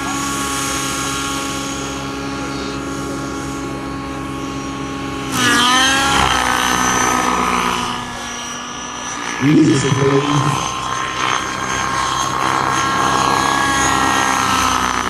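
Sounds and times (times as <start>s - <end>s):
model helicopter engine and rotor: 0.0s - 15.0s.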